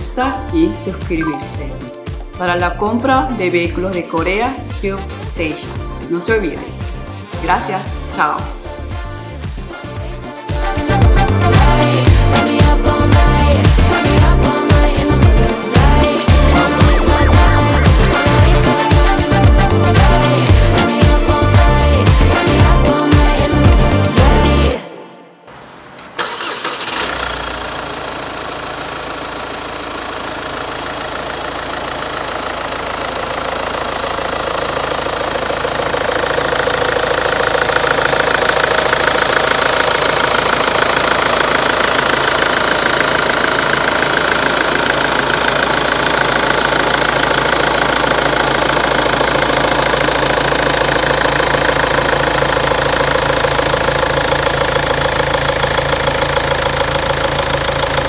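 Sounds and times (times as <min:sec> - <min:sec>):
diesel engine idling: 0:00.0 - 0:24.8, 0:26.2 - 0:58.0.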